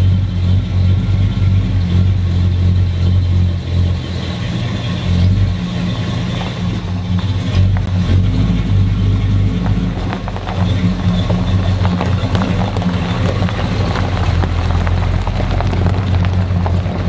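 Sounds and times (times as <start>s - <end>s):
pickup truck engine running: 0.0s - 17.0s
tyres crunching over gravel: 0.1s - 17.0s.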